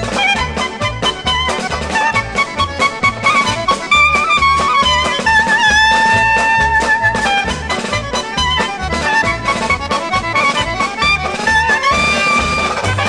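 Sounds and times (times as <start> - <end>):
dance orchestra playing polka: 0.0 - 13.0.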